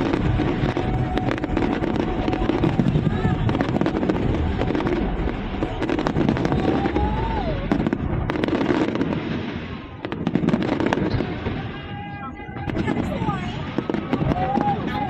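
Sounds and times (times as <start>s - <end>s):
firework whistling: 0.0s - 15.0s
fireworks crackling and popping: 0.0s - 15.0s.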